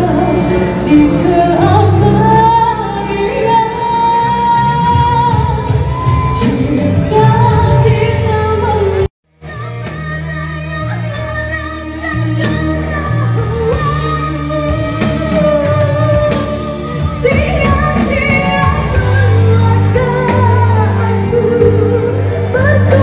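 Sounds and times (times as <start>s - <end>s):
amplified backing music: 0.0s - 23.0s
woman singing a pop ballad: 0.0s - 23.0s.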